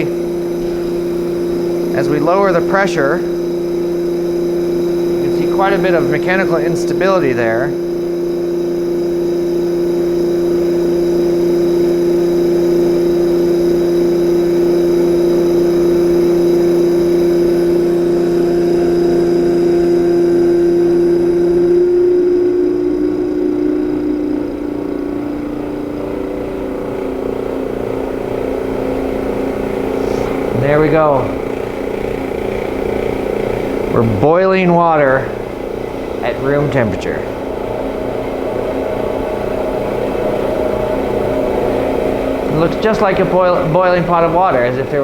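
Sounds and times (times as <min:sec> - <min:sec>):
vacuum pump humming: 0:00.0 - 0:45.0.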